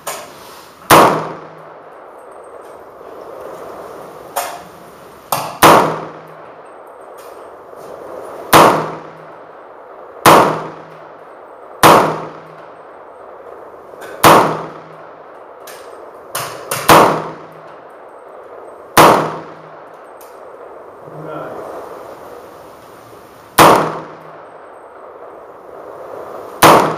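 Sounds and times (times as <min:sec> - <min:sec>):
fainter gunshots: 0:00.0 - 0:02.2, 0:02.8 - 0:06.6, 0:07.2 - 0:17.8, 0:18.5 - 0:26.9
rifle shots: 0:00.0 - 0:22.0, 0:23.5 - 0:26.9.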